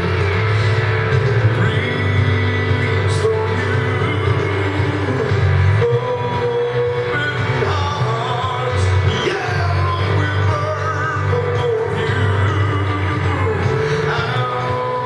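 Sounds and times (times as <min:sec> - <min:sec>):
instrumental accompaniment with bass: 0:00.0 - 0:15.0
voices singing worship music: 0:00.0 - 0:15.0.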